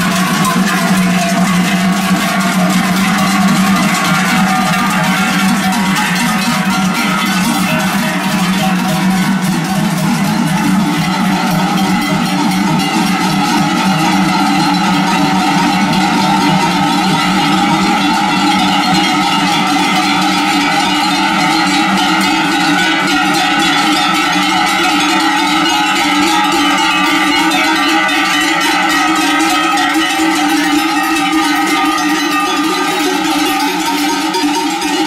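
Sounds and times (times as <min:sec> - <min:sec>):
cowbells ringing: 0:00.0 - 0:35.0.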